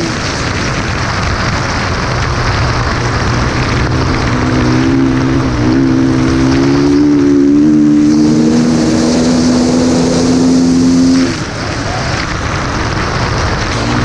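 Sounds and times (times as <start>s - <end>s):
dirt bike engine revving: 0.0s - 14.0s
rushing wind: 0.0s - 14.0s.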